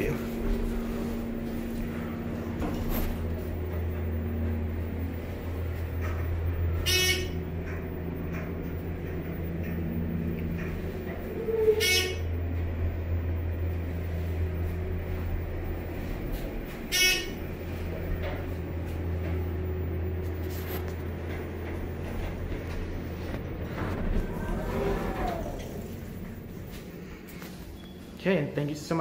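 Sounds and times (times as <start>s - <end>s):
elevator low hum: 0.0s - 29.0s.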